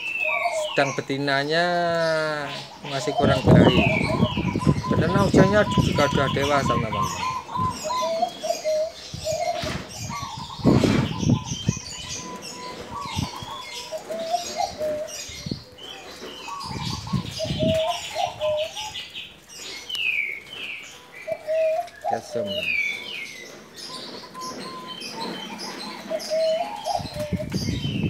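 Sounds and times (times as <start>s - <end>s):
dove cooing: 0.0s - 1.1s, 2.0s - 28.0s
small birds chirping: 0.0s - 28.0s.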